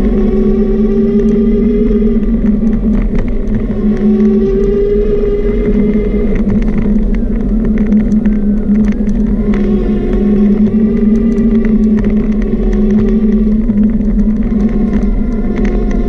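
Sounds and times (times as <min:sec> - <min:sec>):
motor hum: 0:00.0 - 0:16.0
small clicks and rattles: 0:00.0 - 0:16.0.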